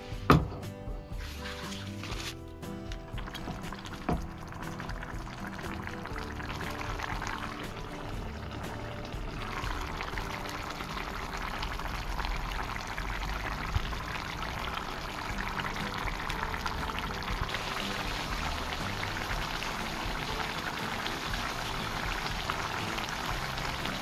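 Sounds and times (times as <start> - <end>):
curry bubbling in a pot: 3.0 - 24.0.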